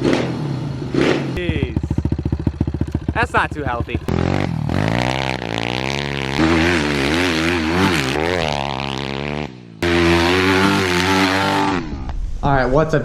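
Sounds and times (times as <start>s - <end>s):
dirt bike engine revving: 0.0s - 12.1s.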